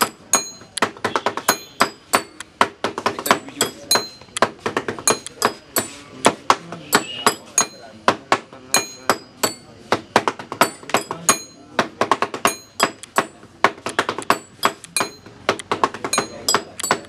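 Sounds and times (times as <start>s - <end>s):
hands drumming on a table: 0.0s - 17.0s.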